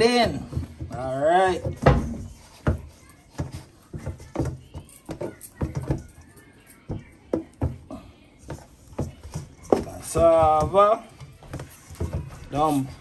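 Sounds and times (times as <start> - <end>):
dough kneaded in metal bowl: 0.0 - 6.2, 6.8 - 13.0.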